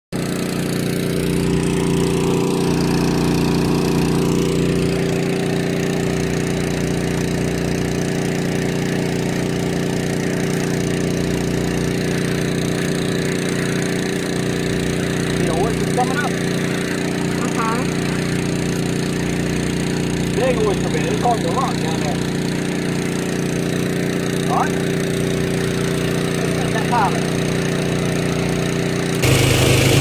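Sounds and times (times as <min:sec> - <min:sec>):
water pump engine running: 0:00.2 - 0:30.0.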